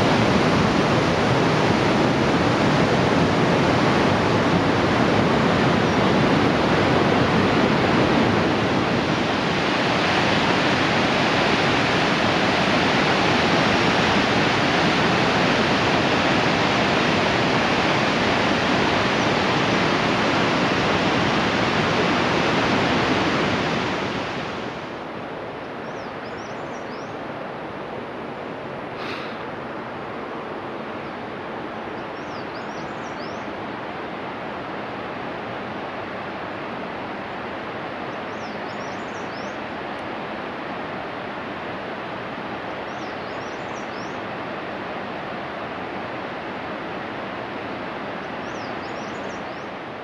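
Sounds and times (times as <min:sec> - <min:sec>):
river rushing over boulders: 0:00.0 - 0:25.8, 0:27.1 - 0:50.0.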